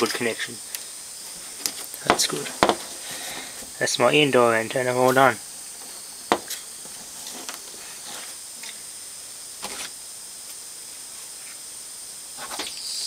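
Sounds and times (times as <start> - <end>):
gas torch hissing: 0.0 - 13.0.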